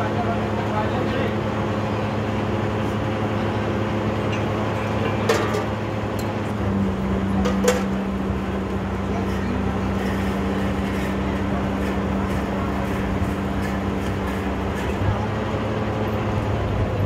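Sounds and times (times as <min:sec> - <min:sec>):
drilling rig engine running: 0:00.0 - 0:17.0.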